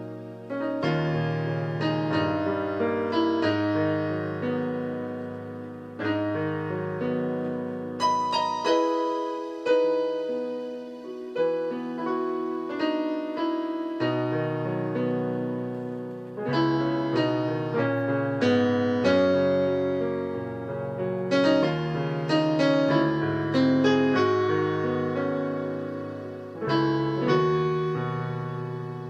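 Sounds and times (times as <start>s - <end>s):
slow keyboard chords: 0.0s - 29.0s.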